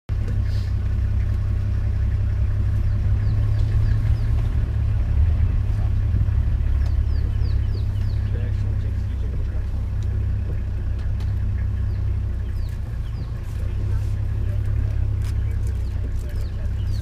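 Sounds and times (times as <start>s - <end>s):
vehicle engine idling: 0.1s - 17.0s.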